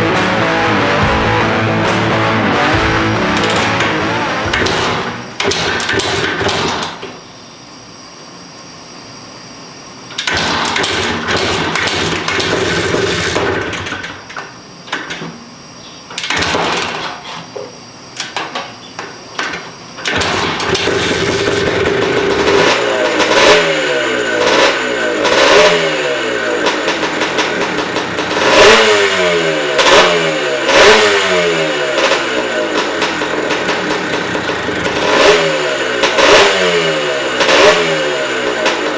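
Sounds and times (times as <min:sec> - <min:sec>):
dirt bike engine revving: 0:00.0 - 0:07.2, 0:10.1 - 0:14.6, 0:16.2 - 0:17.4, 0:19.5 - 0:38.9.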